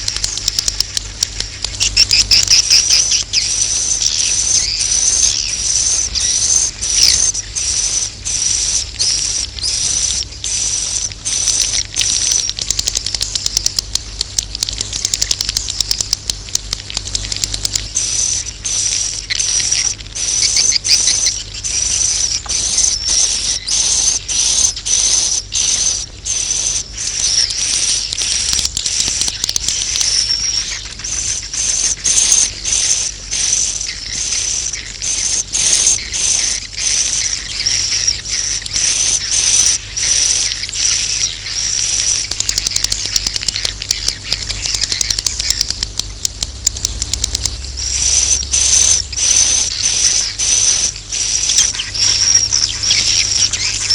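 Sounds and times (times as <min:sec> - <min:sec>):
rapid clicking: 0:00.0 - 0:53.9.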